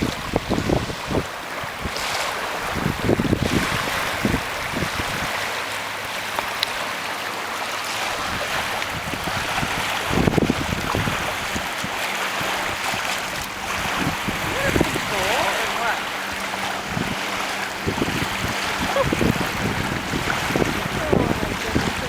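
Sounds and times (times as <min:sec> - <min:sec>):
water splashing along boat hull: 0:00.0 - 0:22.0
wind buffeting microphone: 0:00.0 - 0:22.0.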